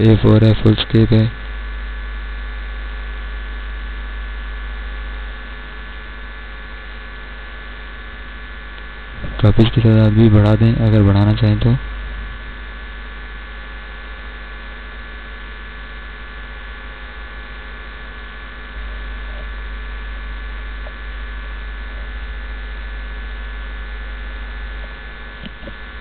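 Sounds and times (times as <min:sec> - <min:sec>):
mains hum: 0:00.0 - 0:26.0.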